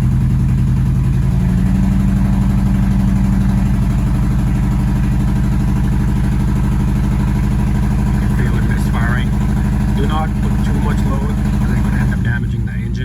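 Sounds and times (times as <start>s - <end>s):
misfiring car engine running: 0.0s - 13.0s.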